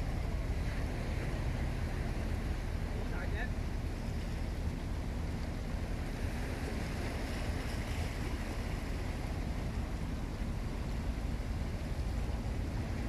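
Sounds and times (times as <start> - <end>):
faint low ship engine hum: 0.0 - 13.0
water lapping: 0.0 - 13.0
wind rumbling on microphone: 0.0 - 13.0.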